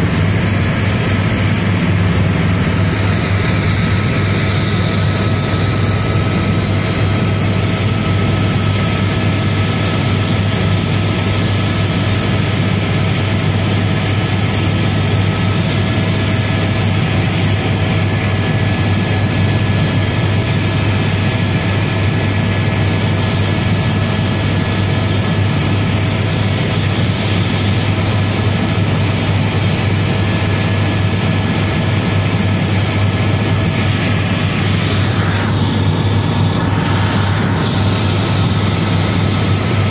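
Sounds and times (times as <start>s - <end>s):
helicopter cabin drone: 0.0s - 39.9s.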